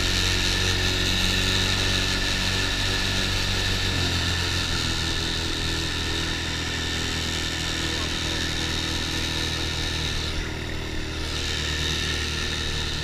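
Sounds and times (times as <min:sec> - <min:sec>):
atv motor running: 0:00.0 - 0:13.0.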